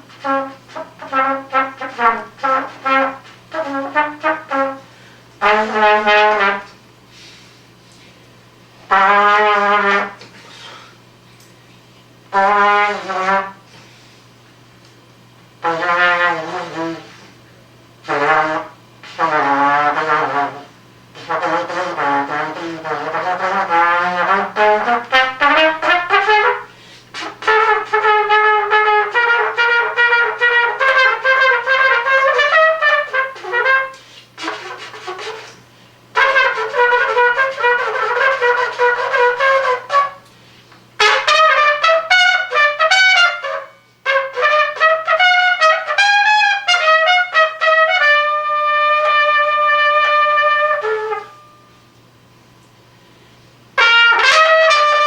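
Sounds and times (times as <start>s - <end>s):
solo trumpet improvising: 0.0s - 8.0s, 8.8s - 10.8s, 12.3s - 14.2s, 15.6s - 52.0s, 53.8s - 55.0s.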